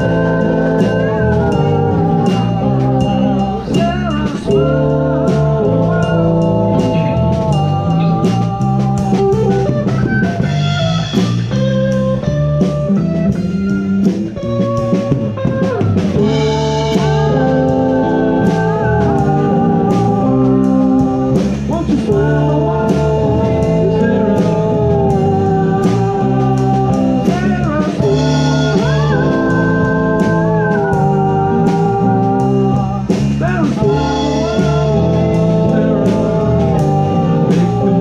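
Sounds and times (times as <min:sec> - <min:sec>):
blues-rock band playing: 0:00.0 - 0:38.0.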